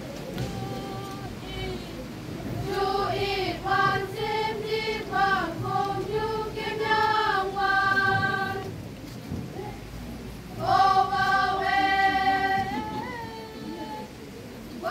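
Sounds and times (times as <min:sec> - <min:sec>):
girls singing in unison: 0:00.2 - 0:08.8, 0:10.5 - 0:14.2.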